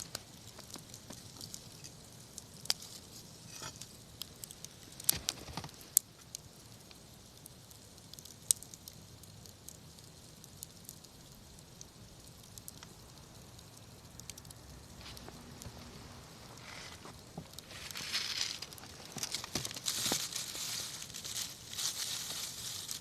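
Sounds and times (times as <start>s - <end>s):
campfire crackling and popping: 0.0s - 23.0s
low hiss: 0.0s - 23.0s.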